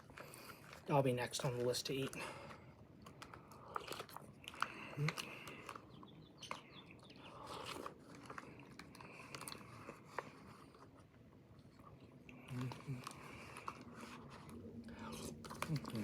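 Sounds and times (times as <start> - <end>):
soft crunches: 0.0 - 16.0
person chewing and biting: 2.5 - 16.0.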